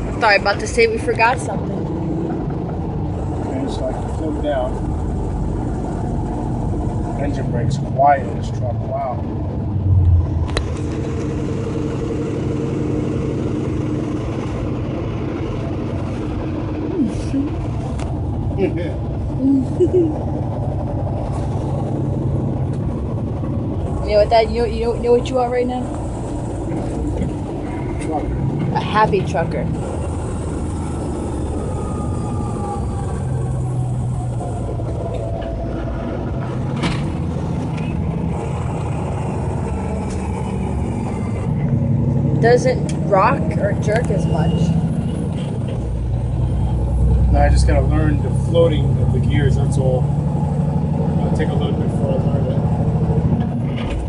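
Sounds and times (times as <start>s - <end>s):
steady tones: 0.0s - 53.8s
diesel truck engine drone: 0.0s - 54.0s.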